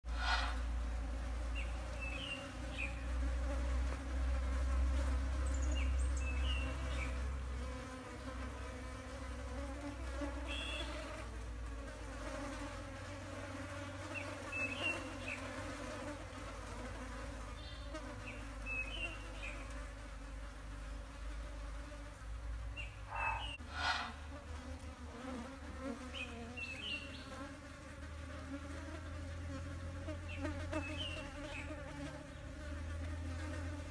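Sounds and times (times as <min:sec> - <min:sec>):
flies buzzing: 0:00.0 - 0:33.9.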